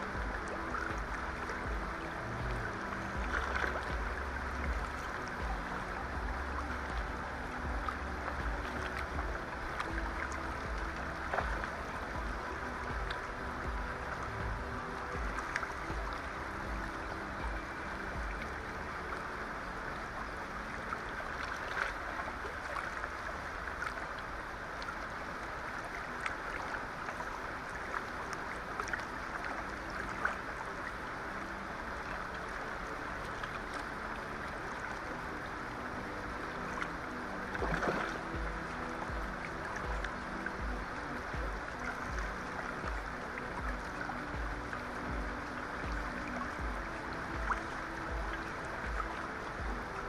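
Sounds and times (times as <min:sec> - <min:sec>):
fast river rushing: 0:00.0 - 0:50.0
wind rumble on microphone: 0:00.0 - 0:50.0.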